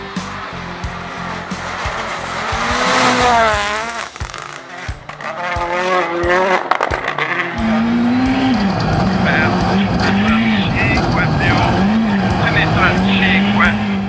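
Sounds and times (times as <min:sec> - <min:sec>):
rally car engine revving hard: 0:00.0 - 0:14.0.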